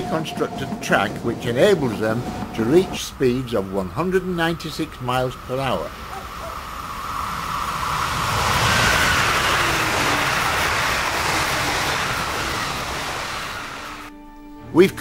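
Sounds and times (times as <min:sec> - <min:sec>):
high-speed train passing: 0:00.0 - 0:14.2.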